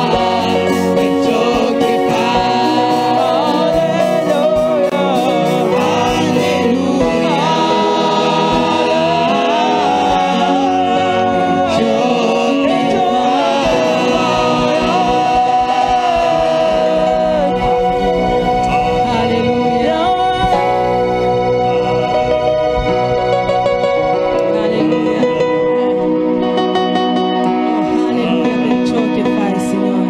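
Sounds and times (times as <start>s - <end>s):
band accompaniment with beat: 0.0s - 26.4s
singers holding long notes: 0.0s - 30.0s.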